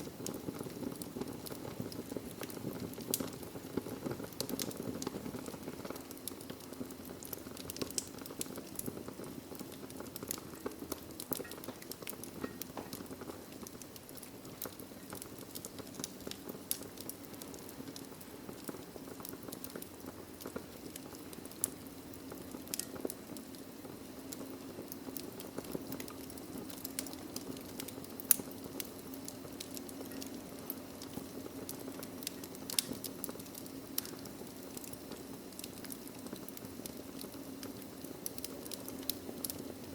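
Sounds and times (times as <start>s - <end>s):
flames rushing: 0.0s - 39.9s
logs crackling and popping: 0.0s - 39.9s.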